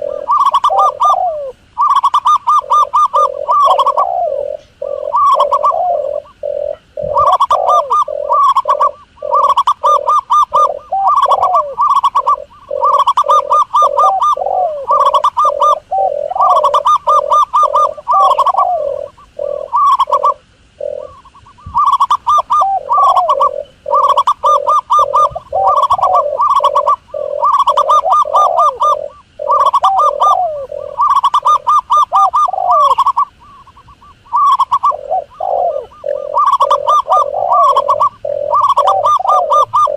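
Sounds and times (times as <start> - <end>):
dove cooing call: 0.0 - 39.9.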